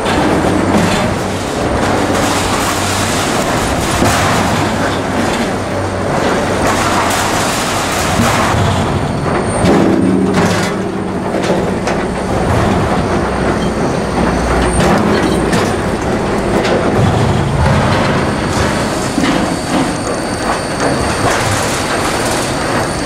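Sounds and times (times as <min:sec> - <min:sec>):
chain conveyor rumble and clatter: 0:00.0 - 0:23.0.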